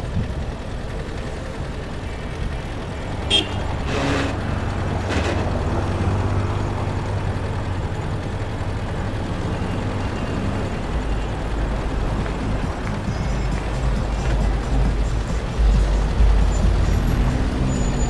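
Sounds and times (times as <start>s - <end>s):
car engine hum: 0.0s - 18.0s
road noise: 0.0s - 18.0s.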